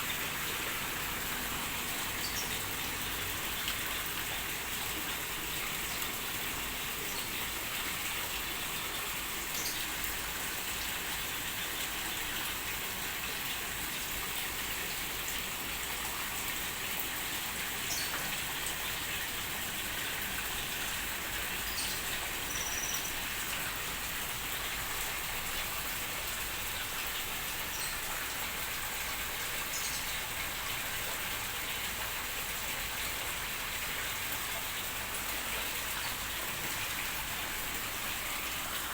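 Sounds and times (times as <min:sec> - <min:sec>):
falling water hissing and pattering: 0:00.0 - 0:38.9.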